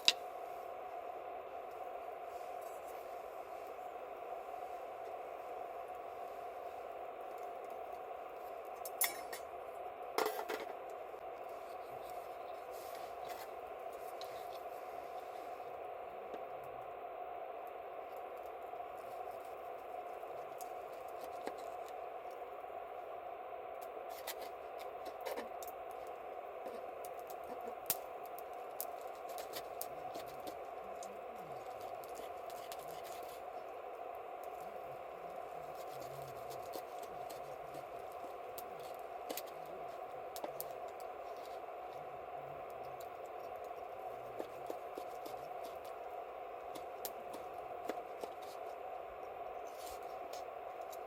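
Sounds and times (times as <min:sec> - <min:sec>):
campfire crackling and popping: 0:00.0 - 0:00.4, 0:02.8 - 0:23.0, 0:23.7 - 0:51.0
steady hiss: 0:00.0 - 0:51.0.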